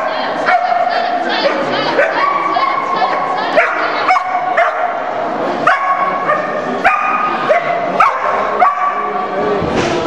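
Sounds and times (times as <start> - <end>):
dog barking in a hall: 0.0 - 9.6.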